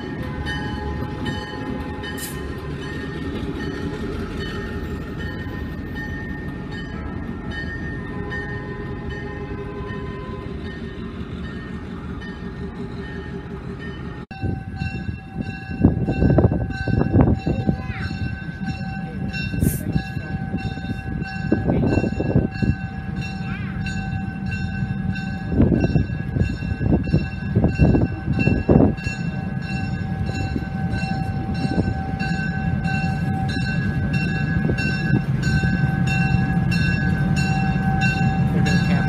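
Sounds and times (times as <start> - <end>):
diesel engine rumble: 0.0 - 39.0
locomotive bell ringing: 0.0 - 39.0.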